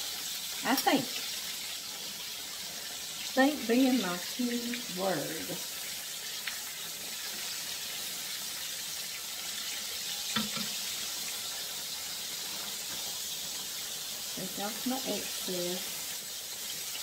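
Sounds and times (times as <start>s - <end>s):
pork chops sizzling in oil: 0.0s - 17.0s.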